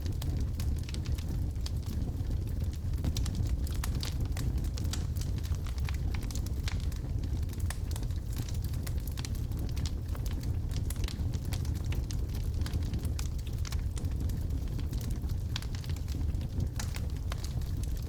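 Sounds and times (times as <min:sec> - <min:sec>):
fire rumbling: 0:00.0 - 0:18.0
logs crackling and popping: 0:00.0 - 0:18.0.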